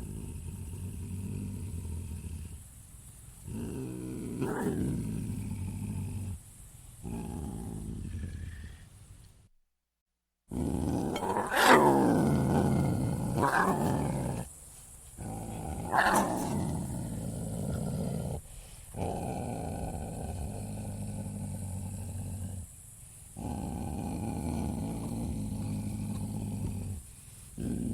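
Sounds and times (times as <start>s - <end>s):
leopard growling: 0.0s - 2.8s, 3.4s - 8.9s, 10.5s - 14.6s, 15.2s - 27.9s
leopard snarls: 0.0s - 2.8s, 3.4s - 9.0s, 10.5s - 14.6s, 15.2s - 27.9s.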